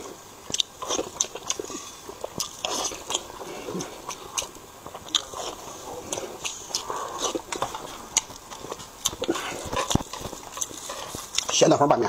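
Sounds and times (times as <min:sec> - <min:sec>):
chewing and wet mouth sounds: 0:00.0 - 0:11.8.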